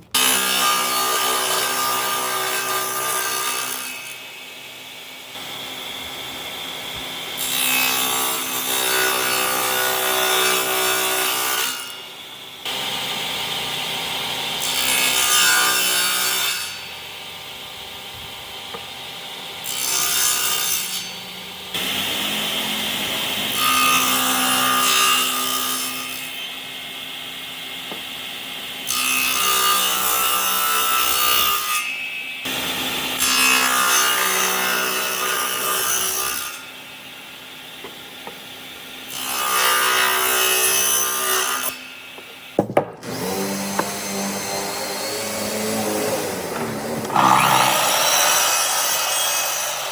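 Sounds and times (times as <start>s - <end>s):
power tool cutting wood: 0.1s - 36.8s, 37.6s - 49.9s.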